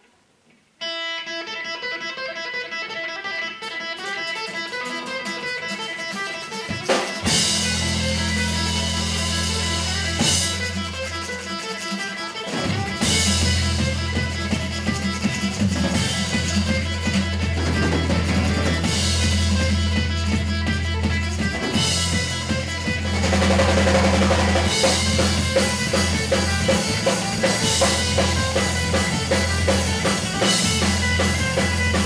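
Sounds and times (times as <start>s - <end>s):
electric guitar: 0.8s - 32.0s
drums: 1.6s - 32.0s
bass guitar: 5.1s - 32.0s.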